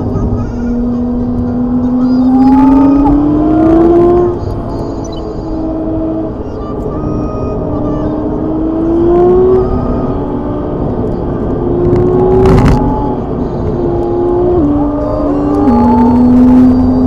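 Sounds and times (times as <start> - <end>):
car engine accelerating: 0.0 - 17.0
passing car rush: 0.0 - 17.0.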